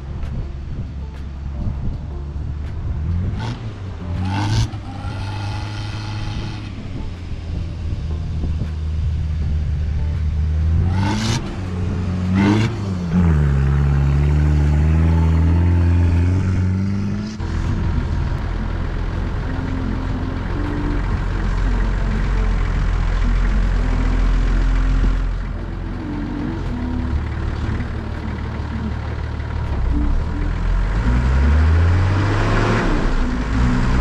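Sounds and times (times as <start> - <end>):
engine revving in sand: 3.0 - 34.0.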